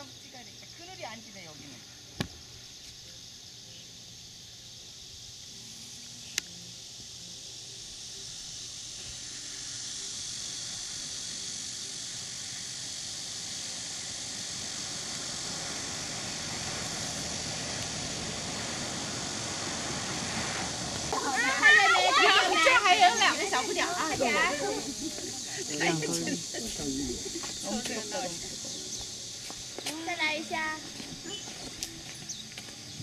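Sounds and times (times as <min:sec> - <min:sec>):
high outdoor hiss: 0:00.0 - 0:33.0.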